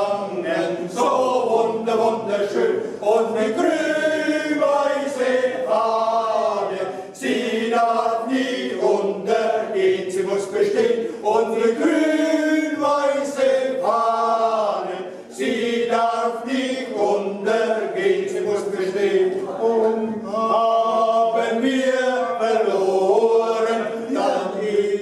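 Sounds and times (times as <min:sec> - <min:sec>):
male voices singing together: 0:00.0 - 0:25.0.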